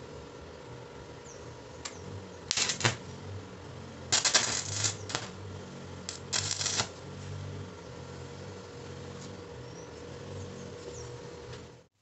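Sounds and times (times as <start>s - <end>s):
arc welder crackling and sizzling: 0.8s - 11.9s.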